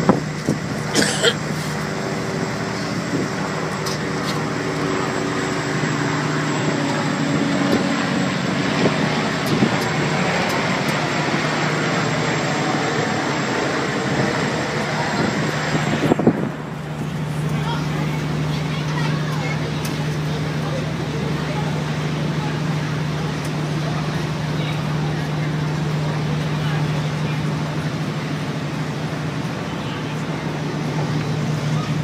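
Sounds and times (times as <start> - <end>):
low engine hum: 0.0 - 32.0
steady rushing noise: 0.0 - 32.0.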